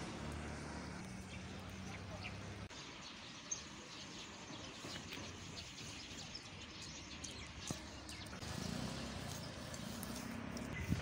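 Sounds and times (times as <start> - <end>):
birds chirping: 0.0 - 11.0
vehicle engine rumble: 0.0 - 11.0.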